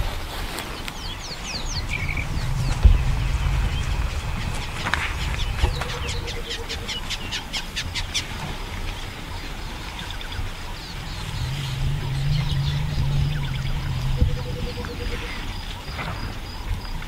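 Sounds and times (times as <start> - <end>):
birds giving sharp high calls: 0.7 - 16.0
steady low rumble: 0.9 - 16.7.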